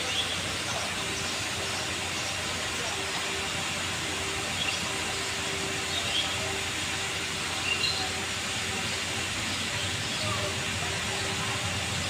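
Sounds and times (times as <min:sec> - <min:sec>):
heavy machinery: 0:00.0 - 0:12.0.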